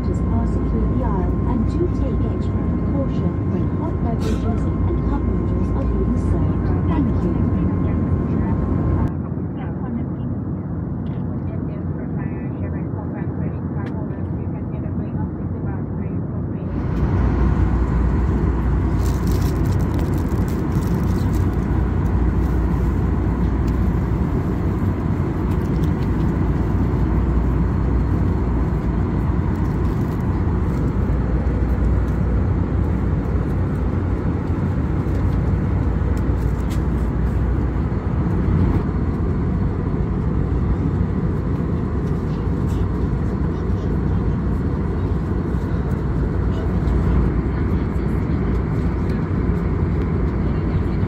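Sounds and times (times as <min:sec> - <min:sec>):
airplane cabin engine roar: 0:00.0 - 0:51.0.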